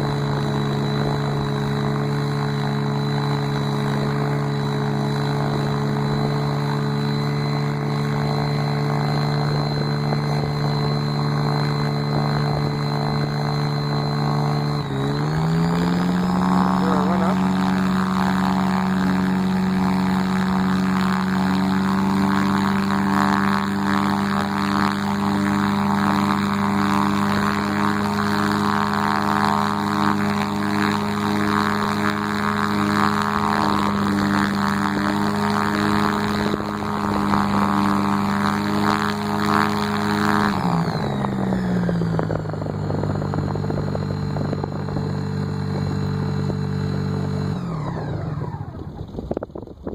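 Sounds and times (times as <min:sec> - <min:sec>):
motorglider engine and propeller: 0:00.0 - 0:49.9.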